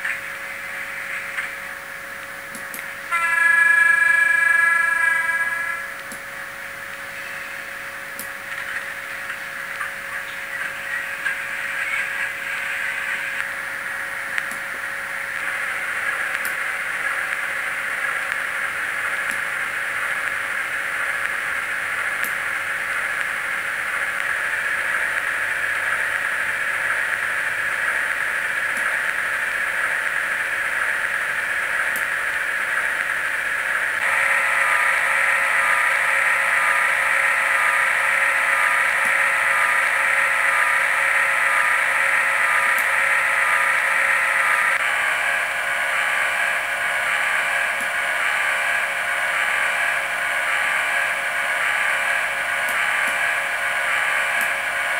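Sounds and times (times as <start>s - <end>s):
hiss-like hum from small speaker: 0.0s - 54.9s
steady humming tone: 0.0s - 54.9s.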